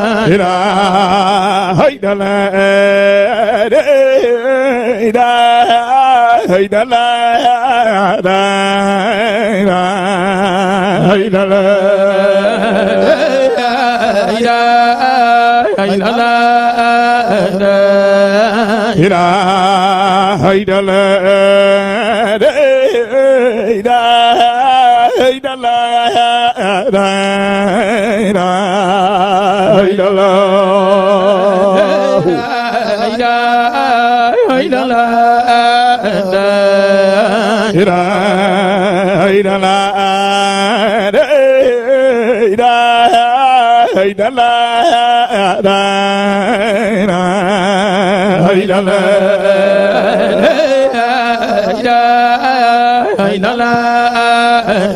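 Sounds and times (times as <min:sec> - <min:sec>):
man chanting into a microphone: 0:00.0 - 0:54.9.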